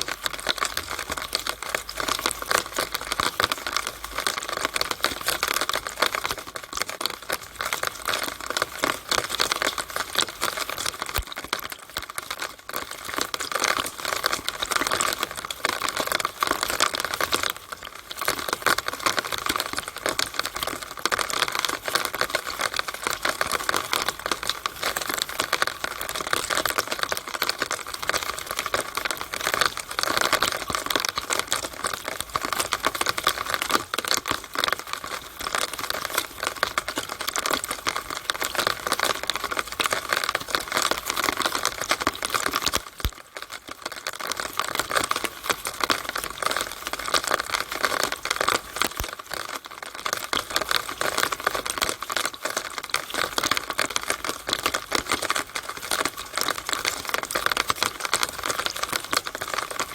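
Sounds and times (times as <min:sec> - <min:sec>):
rainwater splattering from downspout: 0:00.0 - 0:59.9.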